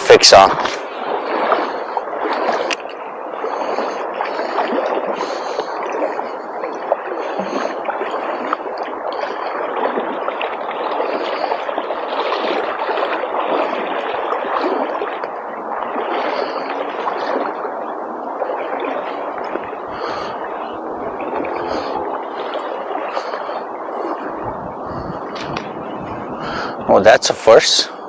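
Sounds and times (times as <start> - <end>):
water gurgling and splashing: 0.0 - 28.0.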